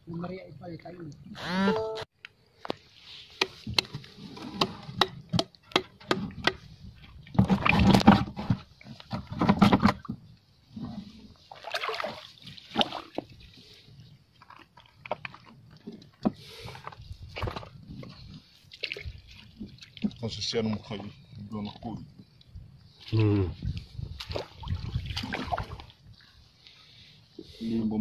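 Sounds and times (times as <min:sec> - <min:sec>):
water sloshing and splashing: 0:02.9 - 0:22.2, 0:23.8 - 0:27.0.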